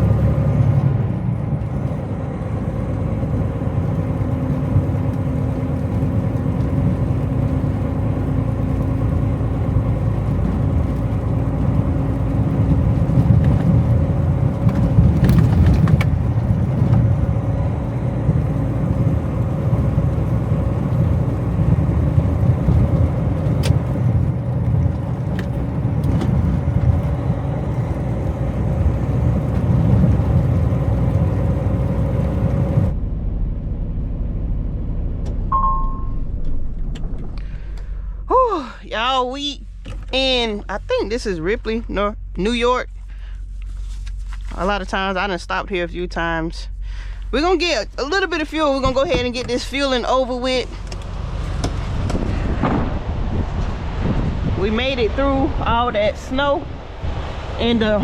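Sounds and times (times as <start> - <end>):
truck engine and road drone: 0.0 - 58.0.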